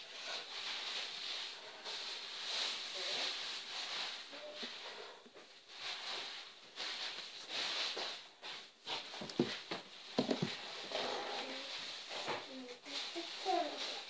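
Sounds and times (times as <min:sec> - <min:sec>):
steady hiss: 0:00.0 - 0:14.0
rustling from handling: 0:00.1 - 0:14.0.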